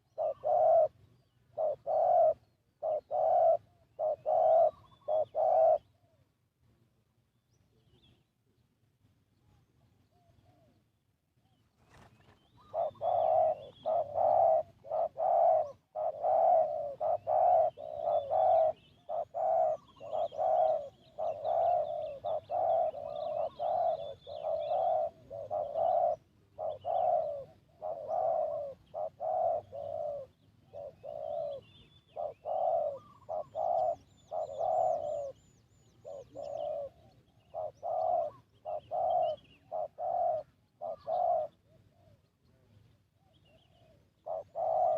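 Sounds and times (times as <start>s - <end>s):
dove cooing: 0.0s - 6.2s, 11.8s - 44.9s
small birds chirping: 0.0s - 6.2s, 7.4s - 44.9s.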